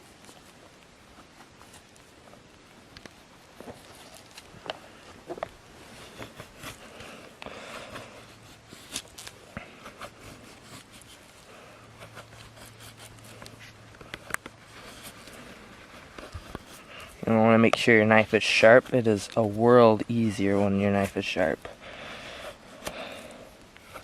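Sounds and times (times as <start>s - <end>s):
knife scraping wood: 3.0s - 24.0s.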